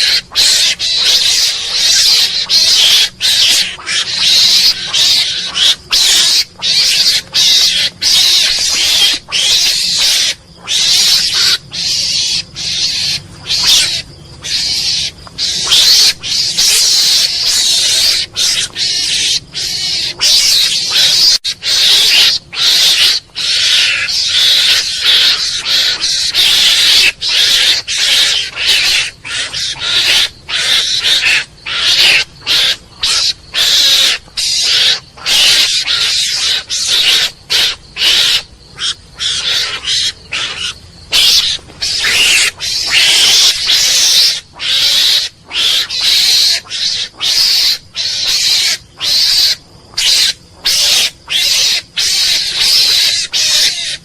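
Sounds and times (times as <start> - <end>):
mongoose raspy chattering calls: 0.0 - 54.0.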